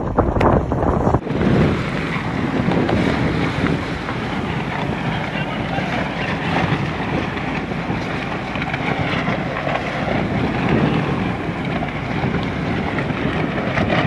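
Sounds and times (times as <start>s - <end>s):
choppy sea water: 0.0s - 14.0s
wind across microphone: 0.0s - 14.0s.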